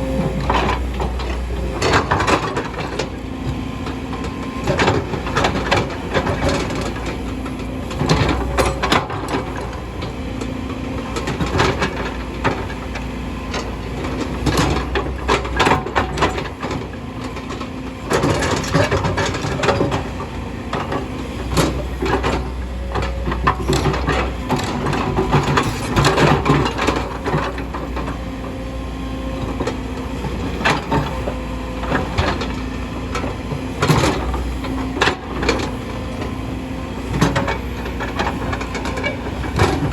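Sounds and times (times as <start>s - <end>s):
diesel engine hum: 0.0s - 39.9s.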